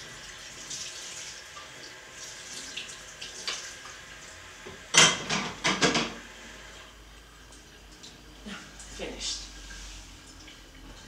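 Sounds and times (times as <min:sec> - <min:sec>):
water running into a sink: 0:00.0 - 0:11.0.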